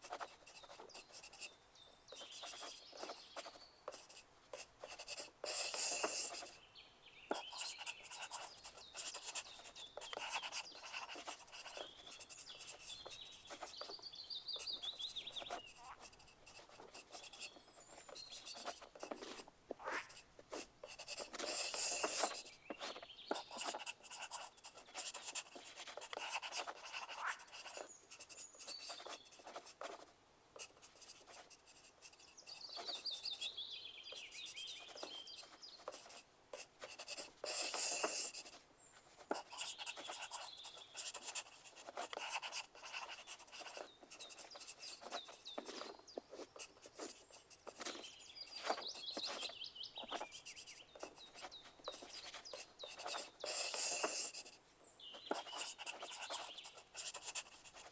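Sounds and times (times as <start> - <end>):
pencil scratching on paper: 0.0 - 6.6, 7.3 - 14.0, 14.6 - 38.6, 39.2 - 57.9.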